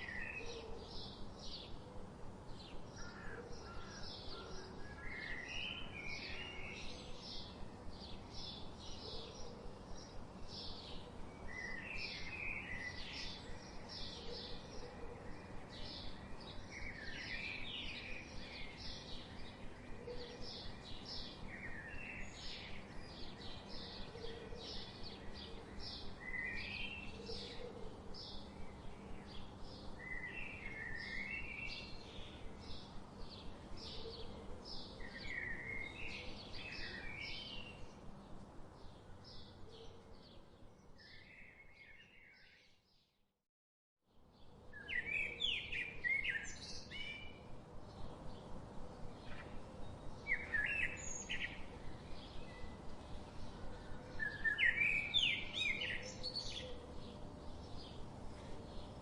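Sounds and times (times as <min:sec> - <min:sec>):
faint background hiss: 0:00.0 - 0:42.2, 0:44.2 - 0:59.0
birds chirping and warbling: 0:00.0 - 0:43.1, 0:44.4 - 0:59.0.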